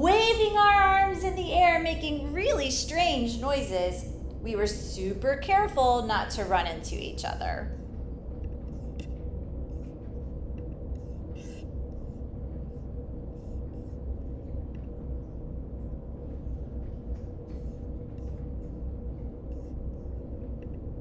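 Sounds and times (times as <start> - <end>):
faint hum: 0.0 - 21.0
low rumble: 0.0 - 21.0.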